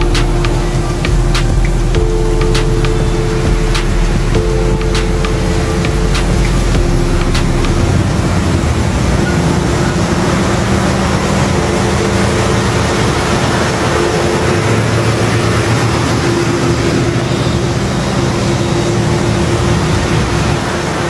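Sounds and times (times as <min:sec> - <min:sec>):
road and wind noise: 0:00.0 - 0:21.0
truck engine droning: 0:00.0 - 0:21.0.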